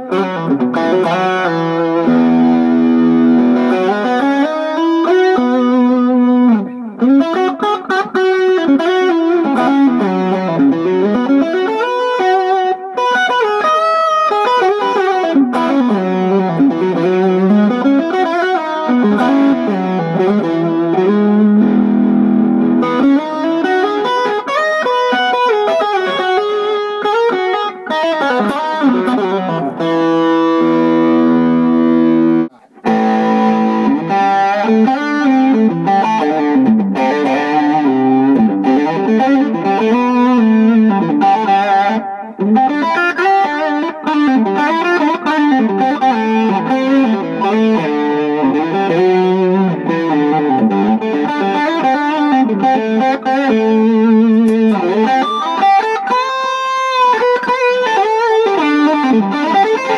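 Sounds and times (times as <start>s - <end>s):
overdriven electric guitar lead: 0.0s - 59.9s.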